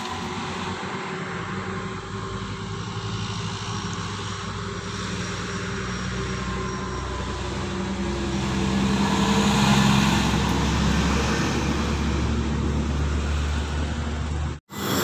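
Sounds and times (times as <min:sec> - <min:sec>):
vehicle engine passing: 0:00.0 - 0:15.0.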